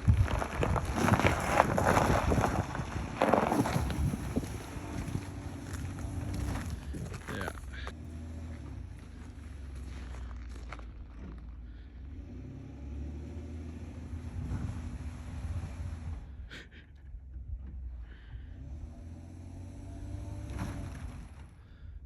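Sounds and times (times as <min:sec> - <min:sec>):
truck engine revving: 0:00.6 - 0:21.6.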